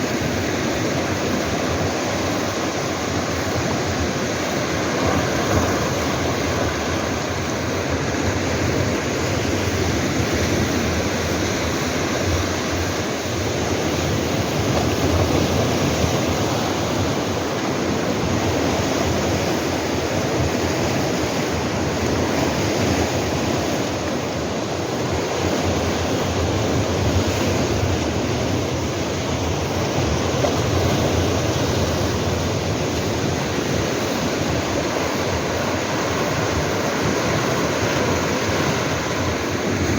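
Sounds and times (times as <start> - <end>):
waves washing against rocks: 0.0 - 39.9
wind on microphone: 0.0 - 39.9.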